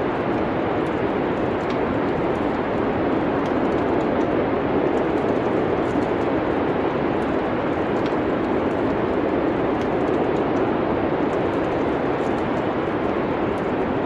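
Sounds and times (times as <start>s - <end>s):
steady rushing noise: 0.0s - 14.0s
wood fire crackling: 0.0s - 14.0s.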